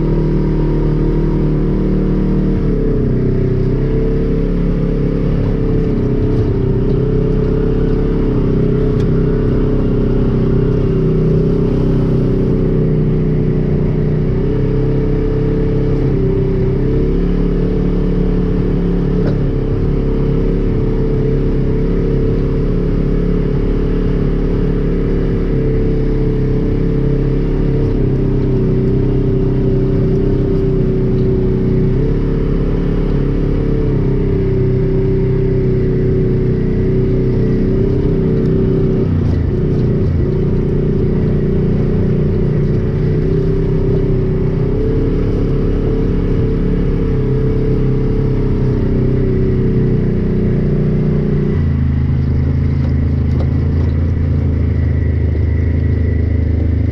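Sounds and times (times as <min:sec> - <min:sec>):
utility vehicle engine running: 0:00.0 - 0:56.9.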